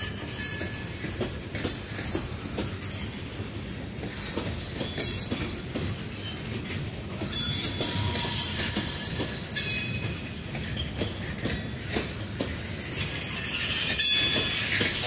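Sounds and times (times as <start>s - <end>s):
freight train rumbling: 0.0s - 15.0s
wheels clacking over rail joints: 0.0s - 15.0s.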